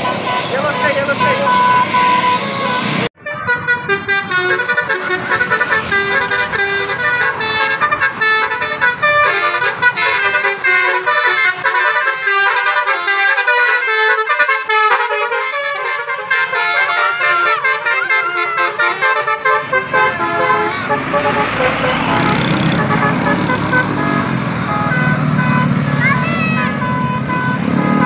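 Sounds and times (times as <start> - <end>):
bus multi-tone horn melody: 0.0 - 28.0.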